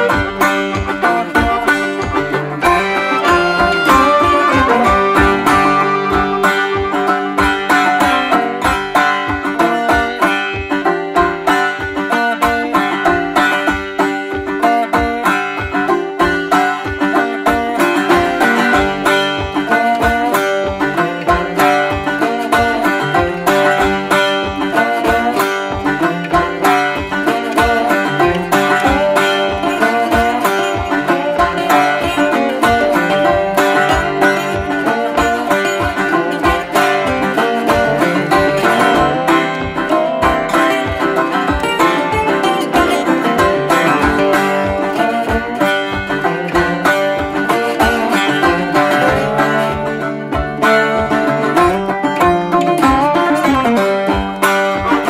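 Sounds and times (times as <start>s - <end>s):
upbeat plucked-string music: 0.0s - 55.0s.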